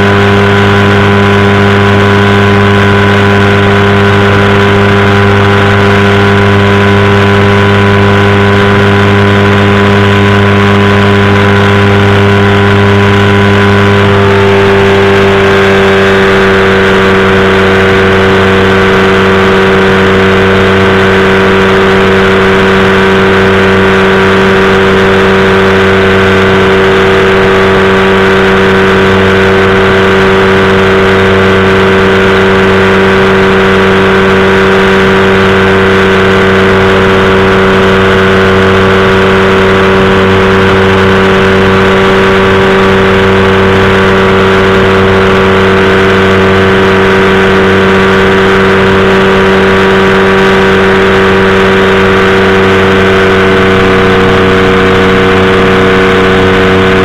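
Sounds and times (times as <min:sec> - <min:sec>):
engine and propeller running: 0:00.0 - 0:57.0.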